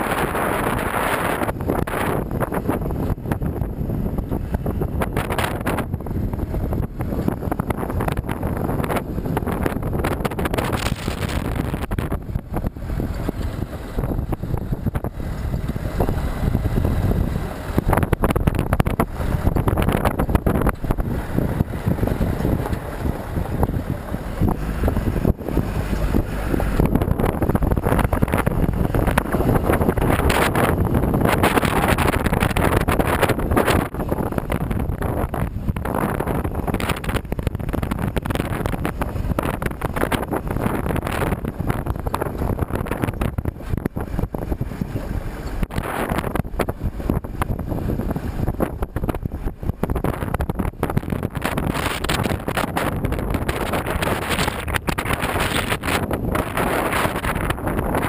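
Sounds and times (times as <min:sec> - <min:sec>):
engine and tyres running: 0:00.0 - 0:58.0
wind buffeting microphone: 0:00.0 - 0:58.0.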